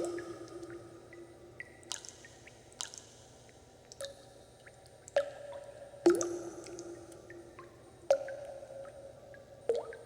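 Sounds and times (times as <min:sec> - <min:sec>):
small water drips: 0:00.0 - 0:10.0.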